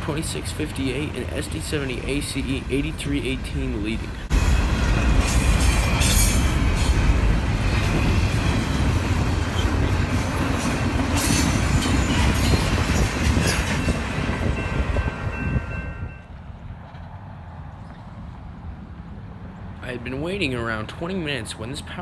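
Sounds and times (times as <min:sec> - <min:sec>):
freight train rumbling past: 0:00.0 - 0:21.5.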